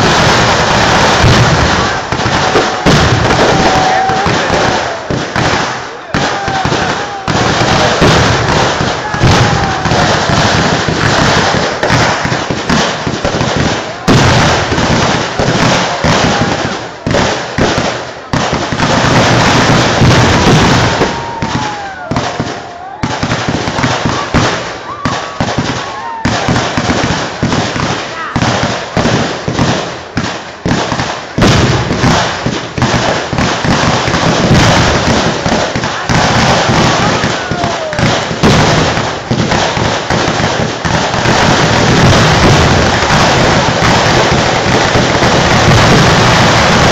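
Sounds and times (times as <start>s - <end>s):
fireworks shells bursting: 0.0s - 46.9s.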